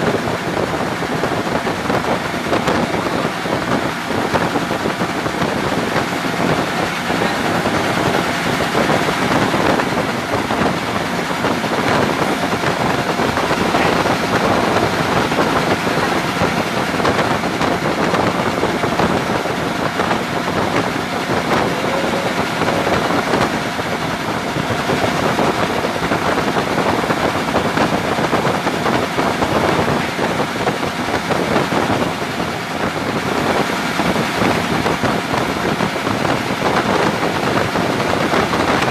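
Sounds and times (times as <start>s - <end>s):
engine droning steadily: 0.0s - 38.9s.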